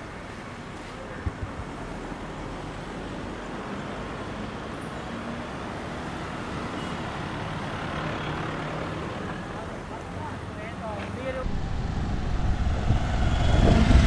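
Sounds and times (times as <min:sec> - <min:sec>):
steady traffic noise: 0:00.0 - 0:14.0.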